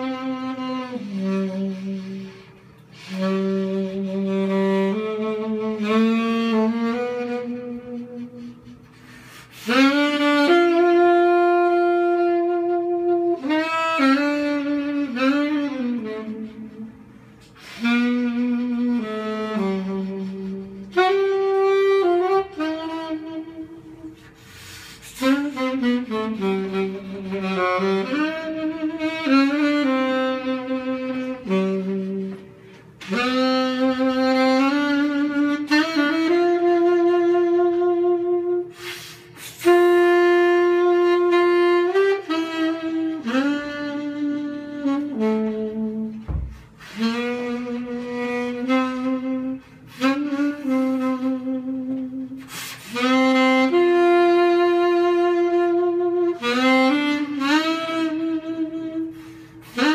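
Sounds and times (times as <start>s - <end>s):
solo saxophone melody: 0.0s - 59.9s.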